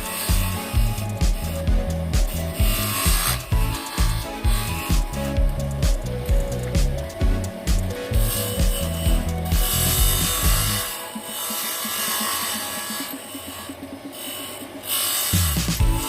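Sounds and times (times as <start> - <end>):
background music with steady beat: 0.0 - 16.0
tool scraping wood: 0.0 - 16.0.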